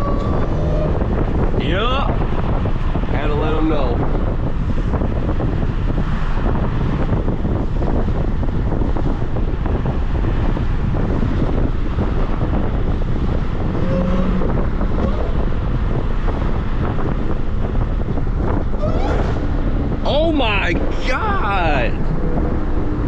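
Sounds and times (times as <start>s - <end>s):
car engine: 0.0s - 23.0s
road and wind noise in car: 0.0s - 23.0s.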